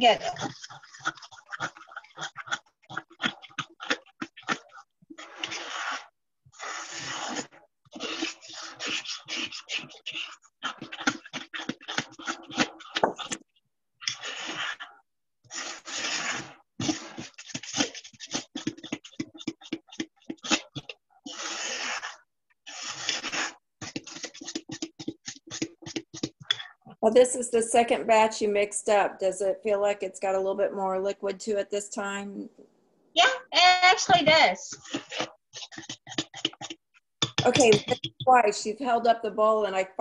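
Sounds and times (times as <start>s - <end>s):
fork beating batter in bowl: 0.0s - 27.0s, 33.8s - 39.0s.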